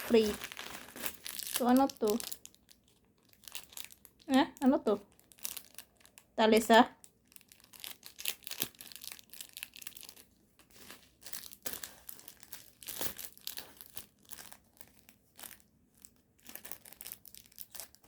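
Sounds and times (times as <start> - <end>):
packaging crinkling and rustling: 0.0 - 6.4, 7.0 - 18.0.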